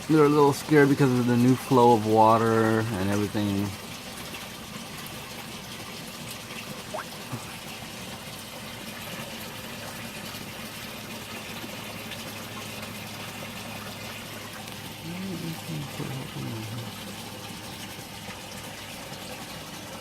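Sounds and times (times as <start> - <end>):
water pouring into tank: 0.0 - 20.0.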